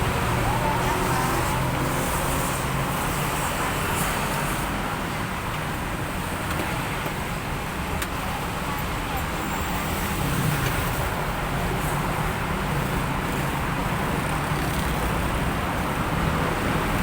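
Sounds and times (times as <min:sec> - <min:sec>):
road traffic rumble and hiss: 0:00.0 - 0:17.0.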